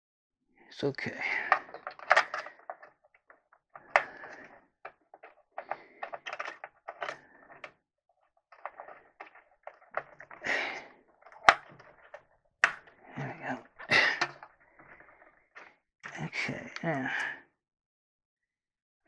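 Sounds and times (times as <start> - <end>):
cables and plastic parts rustling: 0.8 - 17.3.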